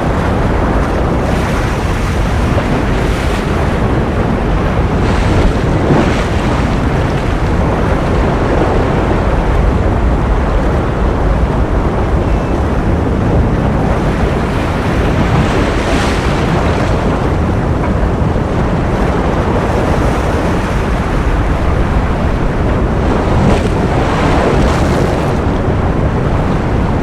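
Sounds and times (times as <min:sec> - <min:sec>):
ocean surf washing: 0:00.0 - 0:27.0.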